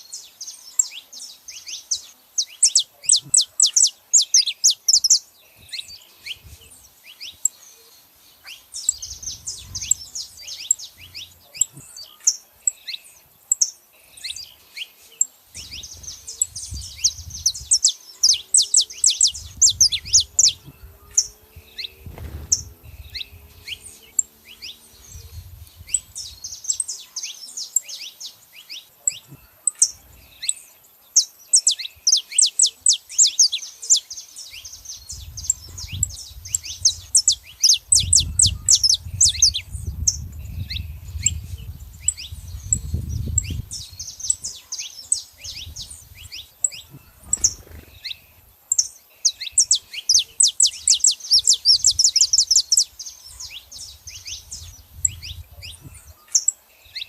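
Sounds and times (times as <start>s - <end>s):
finches chirping: 0.0s - 57.0s.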